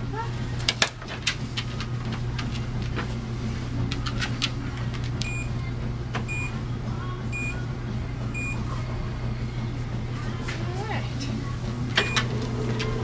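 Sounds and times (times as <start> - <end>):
treadmill motor humming: 0.0 - 13.0.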